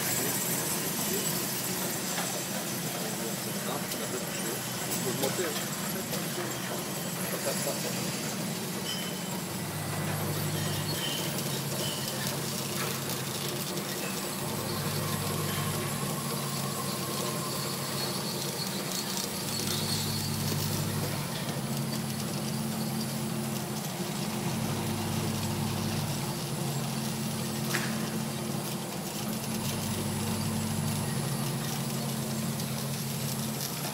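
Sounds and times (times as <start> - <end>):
machine motor hum and hiss: 0.0 - 33.9.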